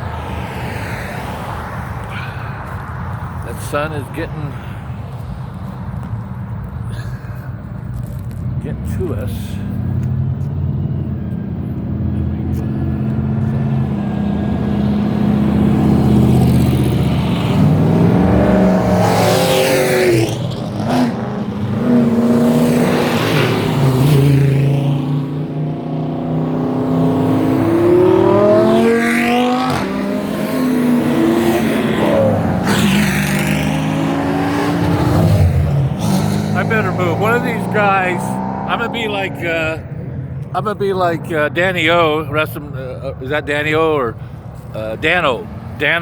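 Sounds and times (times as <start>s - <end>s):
cars accelerating with engines revving: 0.0s - 46.0s.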